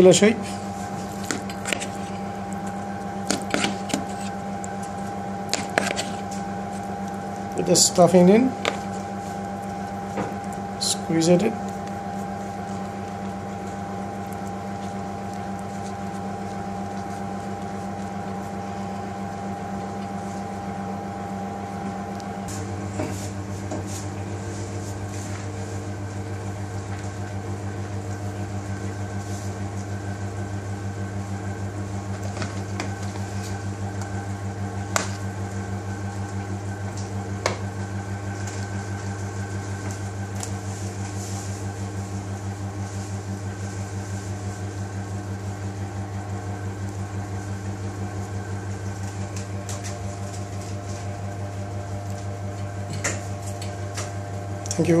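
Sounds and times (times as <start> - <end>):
electrical hum of kitchen machinery: 0.0 - 55.0.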